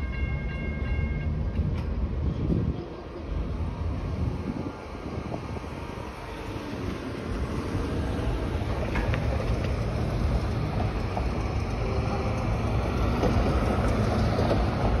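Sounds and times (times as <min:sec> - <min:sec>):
traffic rumble over rail crossing: 0:00.0 - 0:15.0
wind buffeting microphone: 0:01.4 - 0:15.0.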